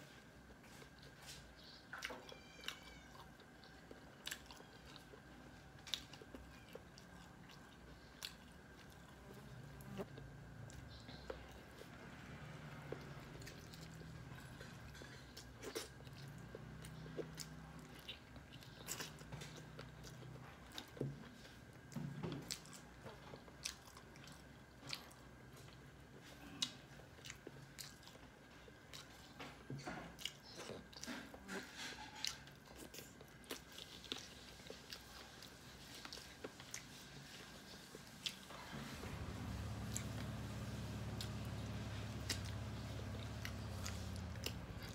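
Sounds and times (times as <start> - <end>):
chewing with wet smacks: 0.4 - 44.9.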